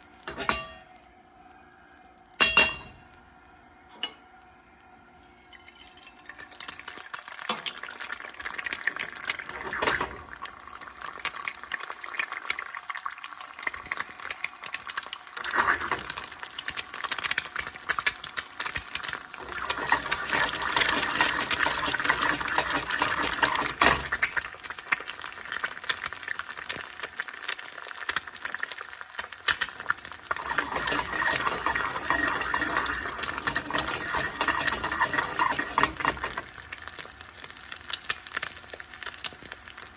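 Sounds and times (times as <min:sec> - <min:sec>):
food sizzling in hot oil: 0:00.0 - 0:01.2, 0:05.2 - 0:39.9.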